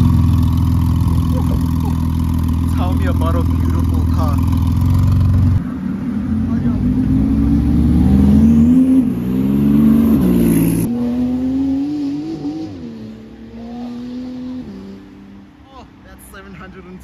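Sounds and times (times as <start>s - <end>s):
car engine accelerating hard: 0.0s - 15.1s.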